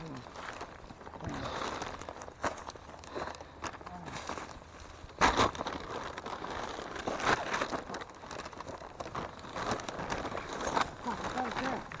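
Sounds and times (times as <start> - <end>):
footsteps through dry brush: 0.0 - 12.0
plastic bag crinkling: 0.0 - 12.0.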